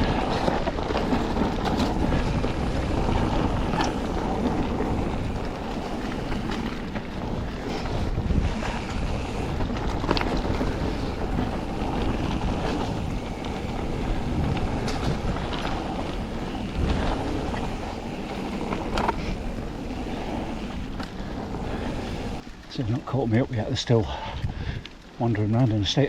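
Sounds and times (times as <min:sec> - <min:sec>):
bike knocks and rattles: 0:00.0 - 0:22.4
wind on microphone: 0:00.0 - 0:22.4, 0:24.3 - 0:24.9
bike tyre noise: 0:00.0 - 0:26.0.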